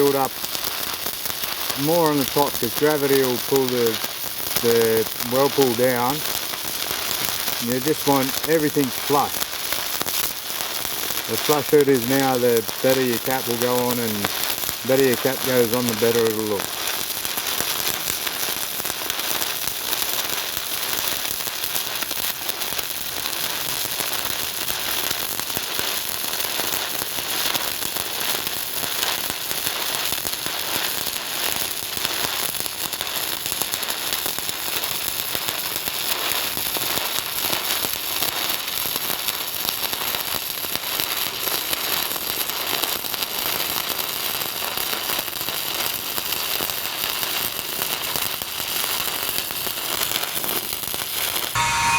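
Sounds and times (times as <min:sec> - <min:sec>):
welding arc crackling: 0:00.0 - 0:51.9.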